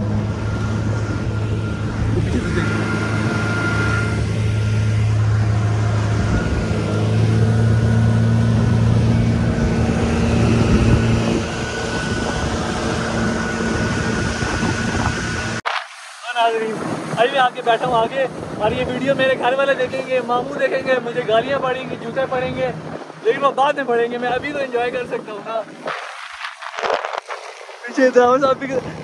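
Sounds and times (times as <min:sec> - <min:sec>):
rush of wind and water: 0:00.0 - 0:29.0
speedboat engine running: 0:00.0 - 0:29.0.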